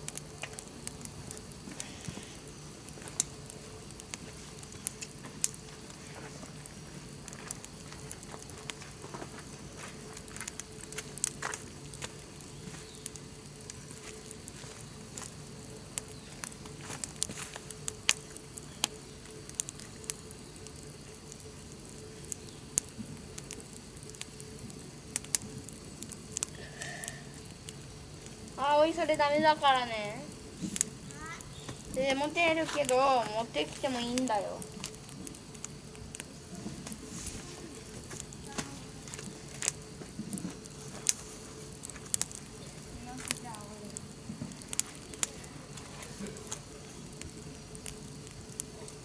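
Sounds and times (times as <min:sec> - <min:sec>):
campfire crackling and popping: 0:00.0 - 0:49.0
faint steady hum: 0:00.0 - 0:49.0.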